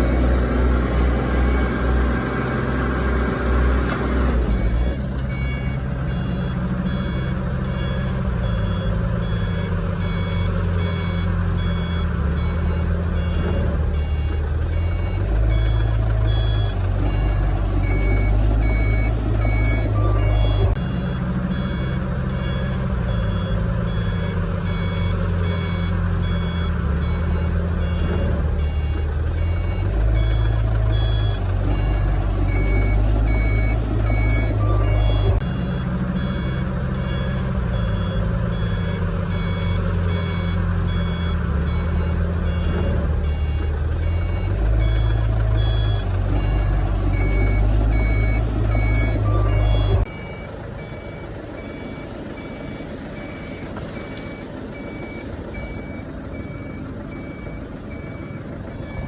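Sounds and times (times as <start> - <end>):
backup alarm beeping: 0.0 - 59.0
diesel engine rumble: 0.0 - 59.0.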